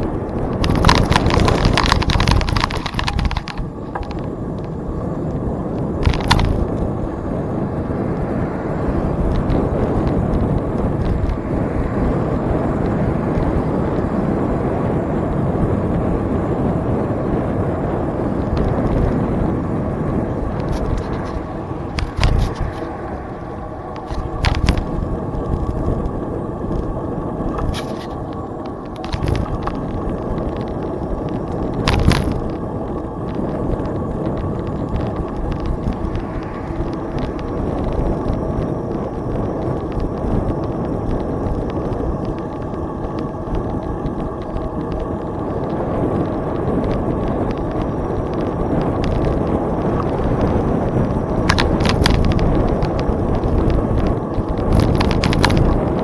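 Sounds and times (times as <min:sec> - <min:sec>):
bicycle knocks and rattles: 0:00.0 - 0:07.1, 0:09.0 - 0:14.4, 0:15.6 - 0:56.0
bicycle tyres rumbling on trail: 0:00.0 - 0:56.0.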